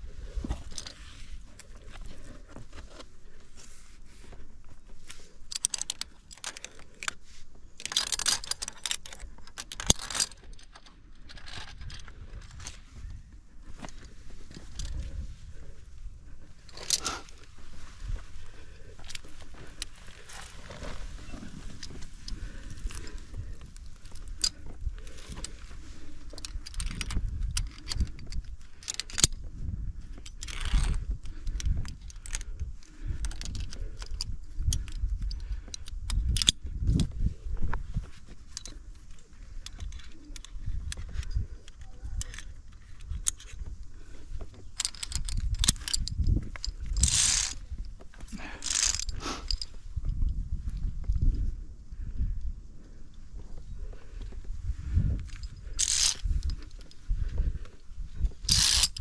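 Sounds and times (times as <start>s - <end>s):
carabiners clinking on steel cable: 0.2s - 3.0s, 4.9s - 13.1s, 13.7s - 51.4s, 53.8s - 59.0s.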